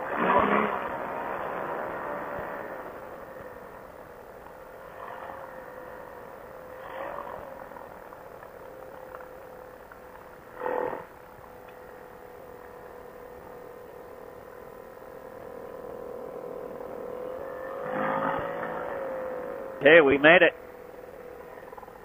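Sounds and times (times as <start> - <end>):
light aircraft engine running: 0.0 - 22.0.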